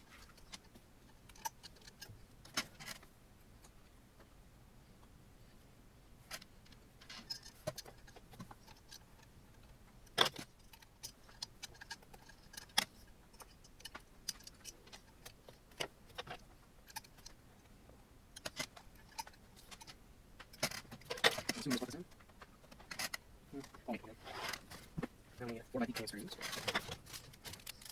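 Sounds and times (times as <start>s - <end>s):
small metallic clicks and rattles: 0.0s - 3.8s, 6.2s - 27.9s.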